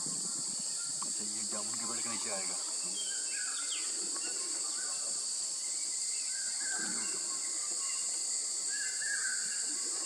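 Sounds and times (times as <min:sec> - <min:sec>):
high-pitched insect drone: 0:00.0 - 0:10.0
bird chirps: 0:00.6 - 0:10.0.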